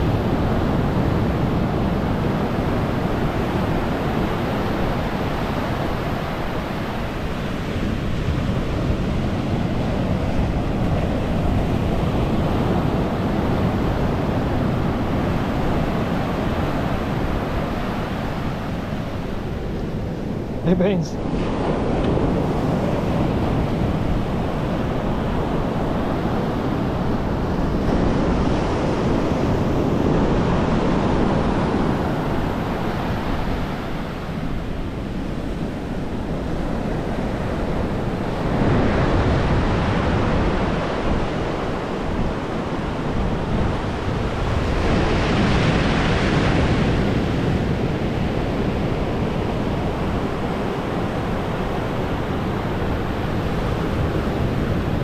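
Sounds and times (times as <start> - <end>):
ocean surf breaking on beach: 0.0 - 55.0
wind rumbling on microphone: 0.0 - 55.0.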